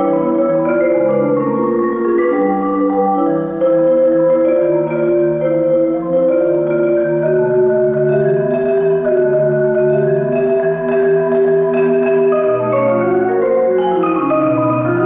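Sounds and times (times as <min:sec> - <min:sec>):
marimba chords: 0:00.0 - 0:15.0.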